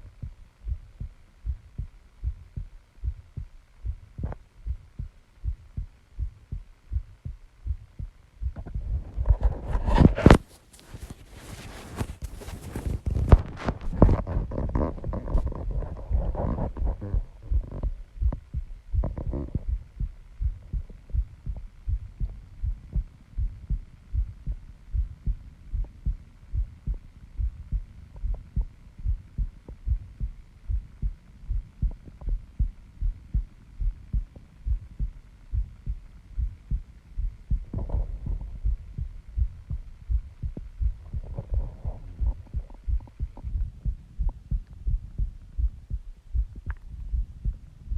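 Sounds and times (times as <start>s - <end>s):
heartbeat thumps: 0.0s - 47.9s.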